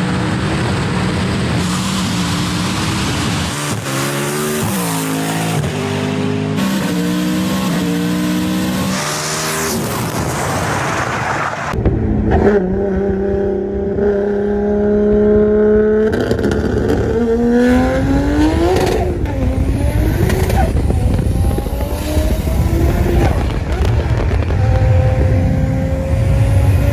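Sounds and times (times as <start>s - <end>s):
car engine at high revs: 0.0s - 26.9s
racing car engine accelerating: 0.0s - 26.9s.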